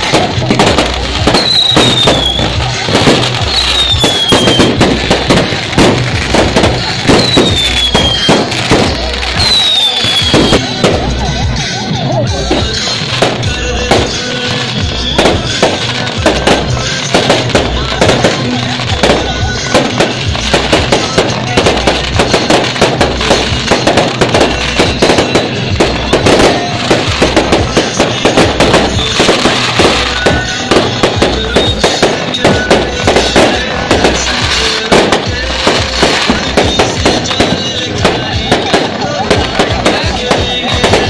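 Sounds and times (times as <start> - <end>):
fireworks bursting and crackling: 0.0 - 41.0
music playing: 0.0 - 41.0.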